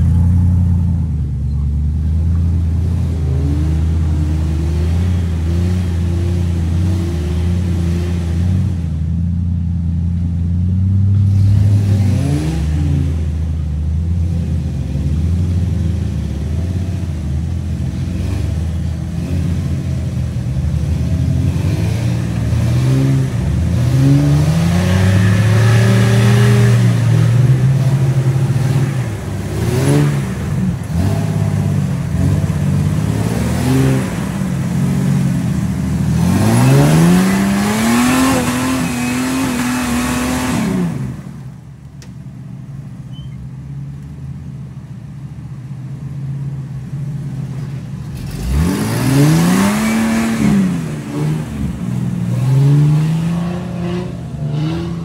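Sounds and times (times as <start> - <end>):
engine revving: 2.0 - 9.0, 10.7 - 13.6, 14.2 - 41.5, 48.1 - 55.0.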